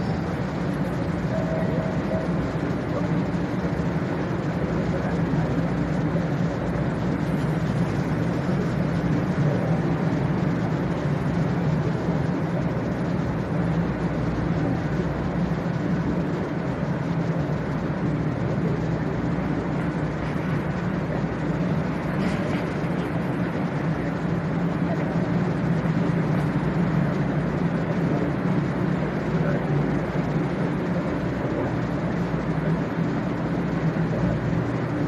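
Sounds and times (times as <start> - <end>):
train equipment humming: 0.0 - 35.0.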